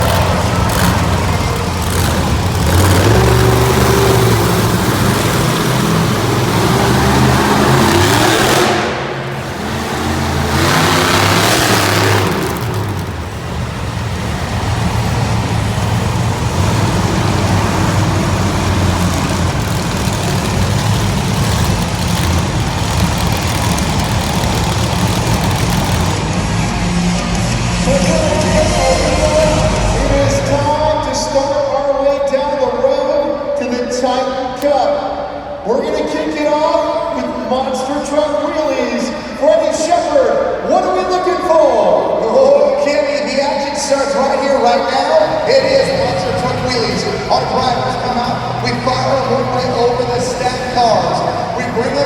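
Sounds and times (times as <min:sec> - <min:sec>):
monster truck engines revving: 0:00.0 - 0:52.0.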